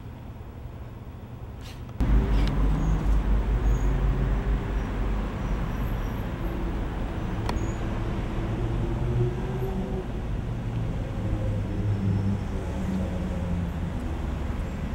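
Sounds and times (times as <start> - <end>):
street traffic noise: 0.0 - 14.9
vehicle engine humming: 1.9 - 14.9.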